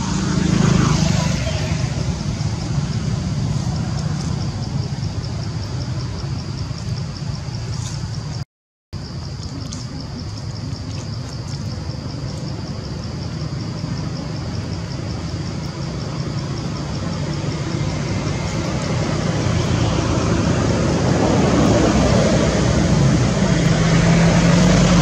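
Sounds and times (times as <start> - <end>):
motor vehicle rumble: 0.0 - 8.4, 9.0 - 25.0.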